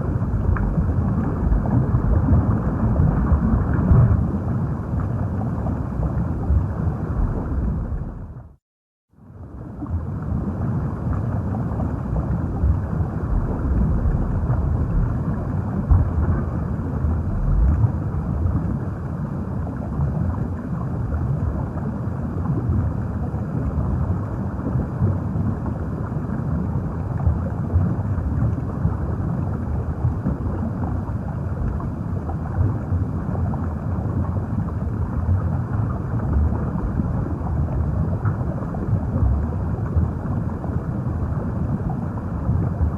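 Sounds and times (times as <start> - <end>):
underwater rumble: 0.0 - 42.9.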